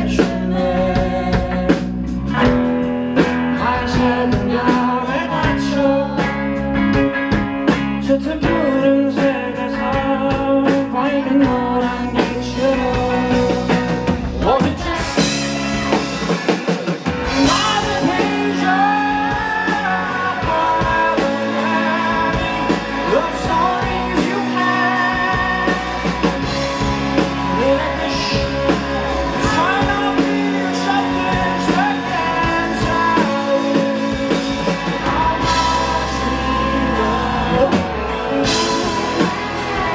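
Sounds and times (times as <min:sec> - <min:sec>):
person singing: 0:00.0 - 0:02.6, 0:03.5 - 0:06.6, 0:08.0 - 0:16.0, 0:17.2 - 0:39.9
rock band playing live: 0:00.0 - 0:39.9.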